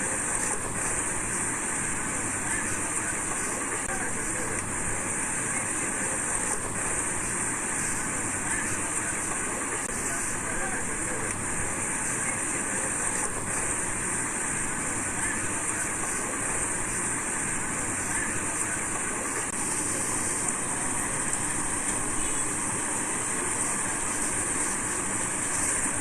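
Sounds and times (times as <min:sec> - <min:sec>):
constant high hiss: 0:00.0 - 0:26.0.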